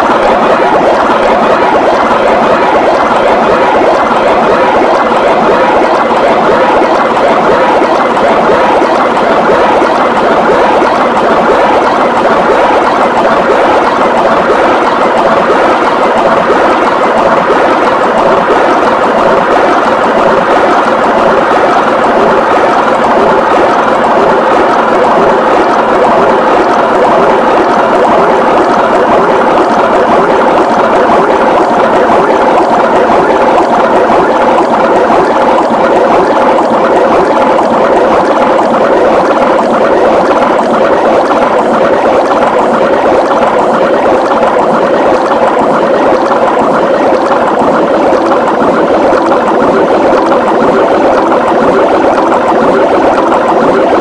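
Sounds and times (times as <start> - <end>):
dense wash of overlapping soundtracks: 0.0 - 54.0.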